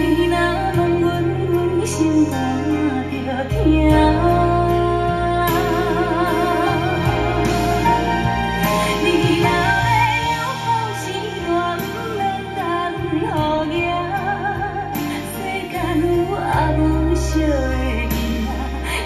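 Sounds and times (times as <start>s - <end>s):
woman singing ballad: 0.0s - 19.0s.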